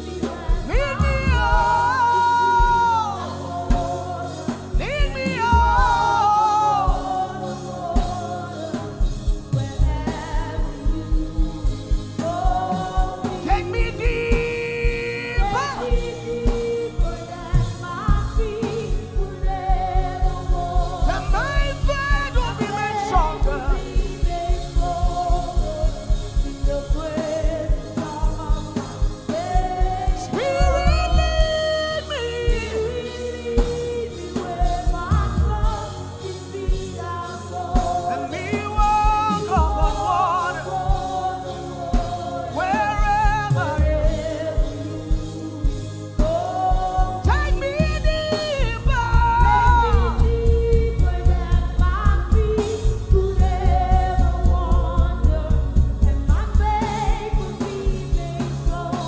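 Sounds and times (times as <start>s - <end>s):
drum and bass beat: 0.0s - 6.1s, 6.8s - 32.8s, 33.6s - 59.0s
gospel singing over a band: 0.0s - 59.0s.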